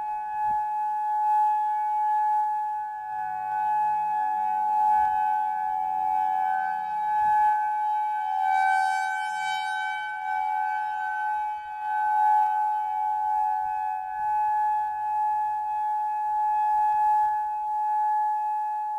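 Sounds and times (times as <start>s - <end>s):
warning siren steady tone: 0.0s - 18.9s.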